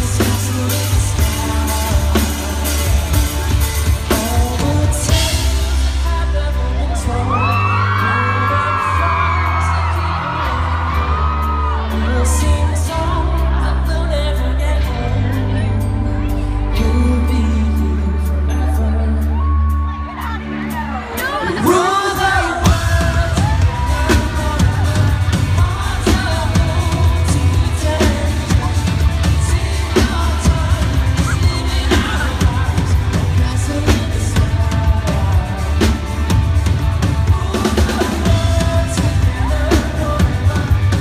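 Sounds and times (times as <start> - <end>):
drum kit: 0.0 - 15.9, 16.7 - 41.0
live rock band playing: 0.0 - 41.0
male lead vocal: 0.0 - 41.0.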